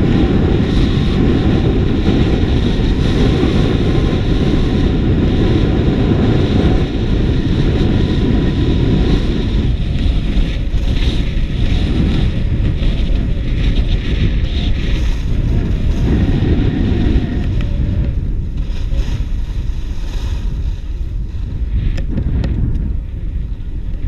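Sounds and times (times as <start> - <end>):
heavy wind rumble on microphone: 0.0 - 24.0
skis hissing and scraping on snow: 0.3 - 21.9.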